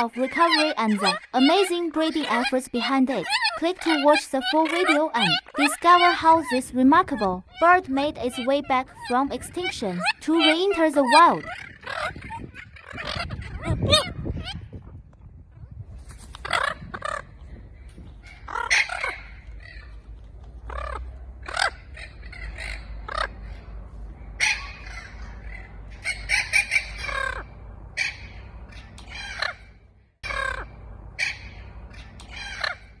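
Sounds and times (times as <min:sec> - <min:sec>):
macaw squawking: 0:00.0 - 0:14.6, 0:18.2 - 0:19.9, 0:20.6 - 0:23.6, 0:24.4 - 0:33.0
low background rumble: 0:00.0 - 0:33.0.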